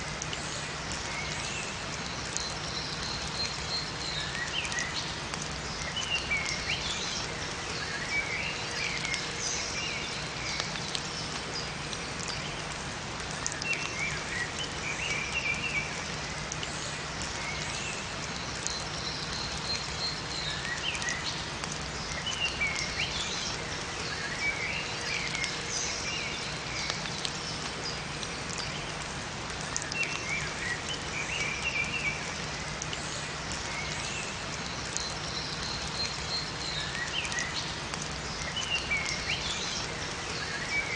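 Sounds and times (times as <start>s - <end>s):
steady rain: 0.0s - 40.9s
songbirds chirping: 0.6s - 40.9s.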